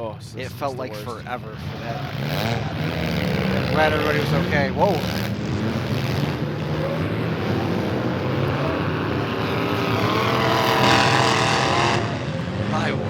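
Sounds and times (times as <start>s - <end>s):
car engines running hard: 0.0s - 13.0s
engine revving up: 1.5s - 13.0s.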